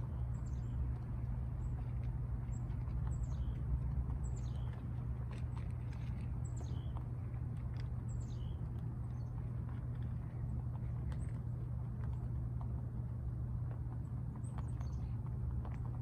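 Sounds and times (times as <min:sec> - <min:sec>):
rabbits chewing feed: 0:00.0 - 0:16.0
small birds chirping: 0:00.0 - 0:16.0
steady low rumble: 0:00.0 - 0:16.0.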